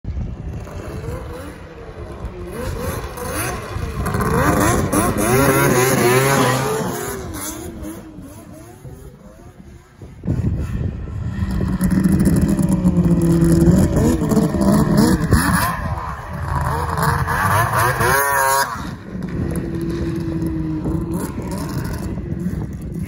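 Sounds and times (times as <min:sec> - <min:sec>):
snowmobile engine revving: 0:00.2 - 0:23.0.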